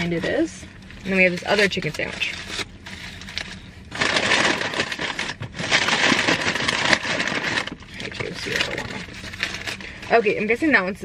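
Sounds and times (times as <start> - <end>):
foil paper wrapper crinkling: 0.0 - 10.4.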